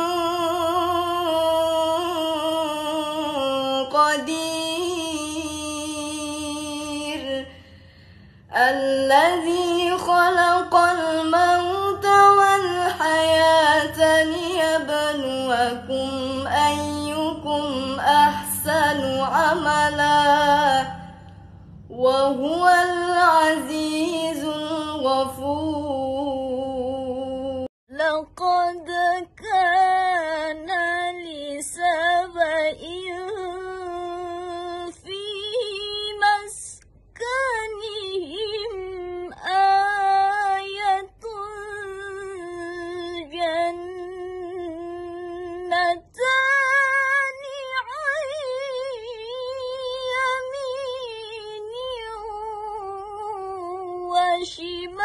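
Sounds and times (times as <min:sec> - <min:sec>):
woman reciting melodically: 0:00.0 - 0:55.0.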